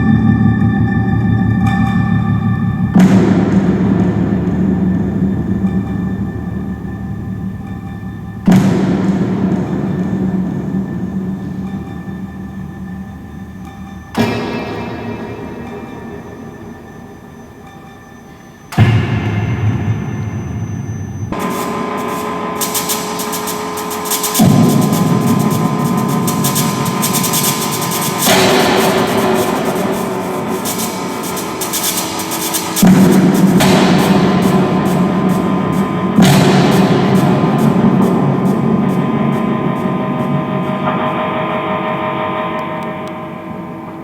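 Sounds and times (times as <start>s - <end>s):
sustained layered drone tones: 0.0s - 44.0s.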